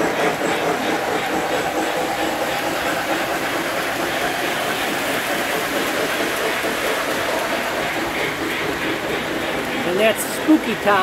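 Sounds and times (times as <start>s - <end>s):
train wheels clattering on track: 0.0s - 11.0s.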